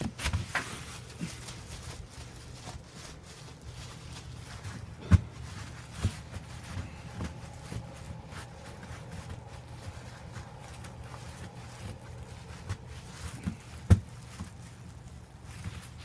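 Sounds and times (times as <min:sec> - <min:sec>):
hands packing snow: 0:00.0 - 0:16.0.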